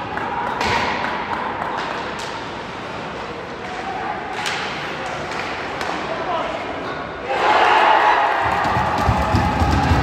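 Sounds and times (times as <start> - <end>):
arena noise: 0.0 - 10.0.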